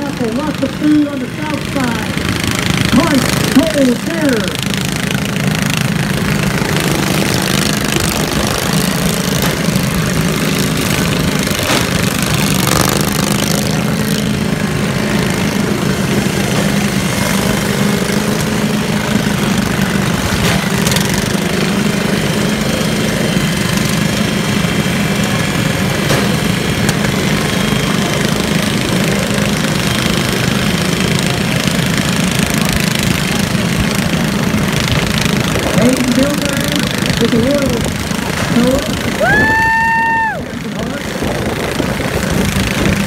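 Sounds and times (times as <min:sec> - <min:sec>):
lawn mower engines running: 0:00.0 - 0:43.0.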